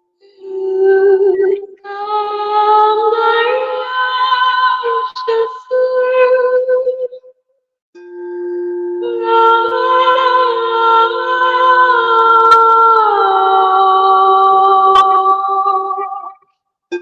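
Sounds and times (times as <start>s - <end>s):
woman singing long held notes: 0.2s - 7.1s, 8.9s - 16.3s.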